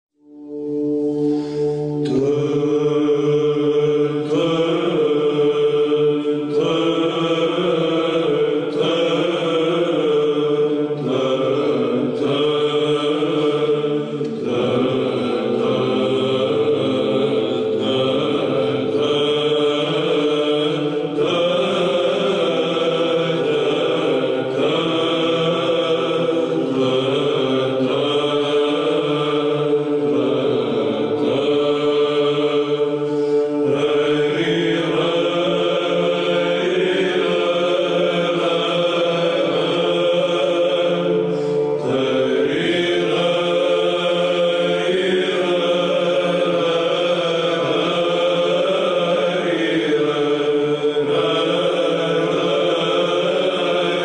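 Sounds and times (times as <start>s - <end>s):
choir chanting slow melody: 0.2s - 54.0s
held vocal drone: 0.2s - 54.0s.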